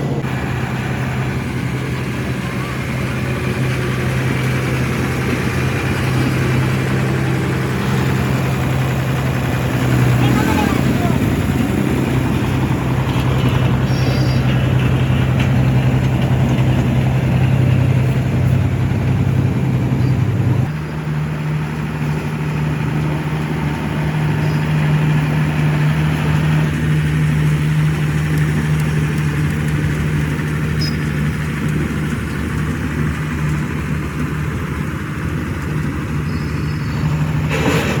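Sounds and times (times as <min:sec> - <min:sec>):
heavy machine engine humming: 0:00.0 - 0:38.0.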